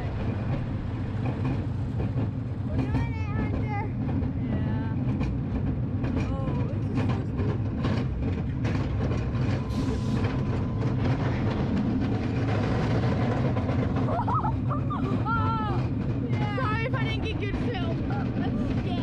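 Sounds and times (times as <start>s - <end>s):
roller coaster rumbling on track: 0.0s - 19.0s
rapid clattering and clicks: 0.2s - 19.0s.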